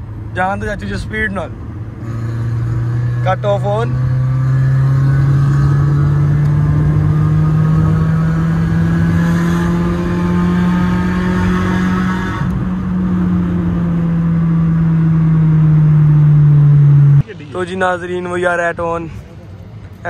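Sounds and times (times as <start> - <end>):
car engine accelerating: 0.0 - 17.2.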